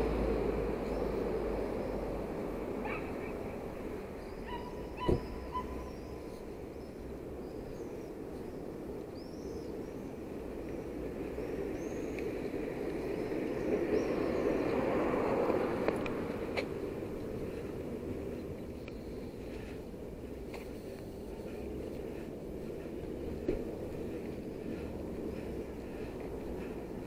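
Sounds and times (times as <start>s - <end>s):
car passing: 0.0s - 6.7s, 10.2s - 27.0s
traffic hum: 0.0s - 27.0s
small birds chirping: 2.8s - 15.1s, 17.1s - 27.0s.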